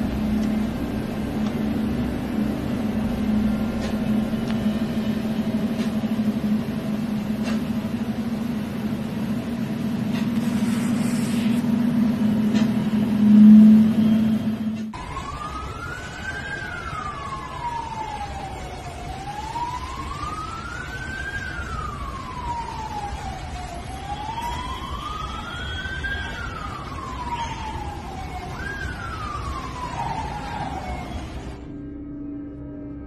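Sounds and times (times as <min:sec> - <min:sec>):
siren wailing: 0:00.0 - 0:33.0.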